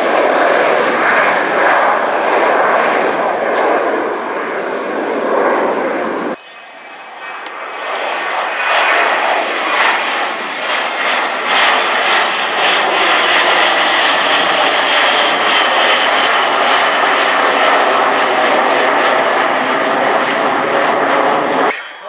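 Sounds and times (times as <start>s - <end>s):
high jet whine: 0.0s - 22.0s
jet plane passing: 0.0s - 22.0s.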